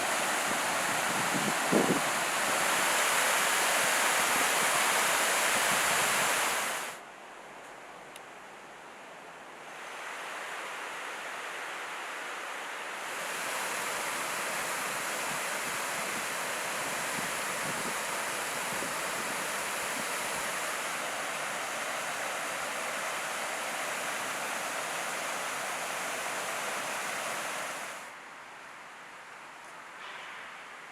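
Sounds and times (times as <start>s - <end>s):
stream water rushing: 0.0s - 7.0s, 9.6s - 28.2s.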